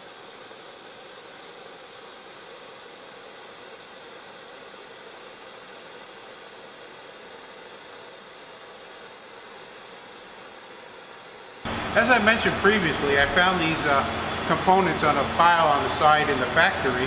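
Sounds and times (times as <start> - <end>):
flame spray gun running: 0.0 - 17.0.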